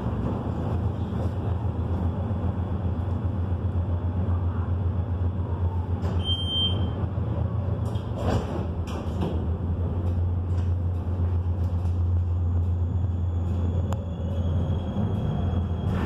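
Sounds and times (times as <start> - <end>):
tram motor hum: 0.0 - 16.0
wheels rumbling on rails: 0.0 - 16.0.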